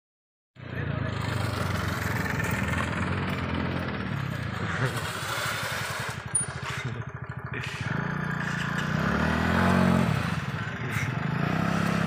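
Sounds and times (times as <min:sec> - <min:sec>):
scooter engine revving: 0:01.0 - 0:12.0.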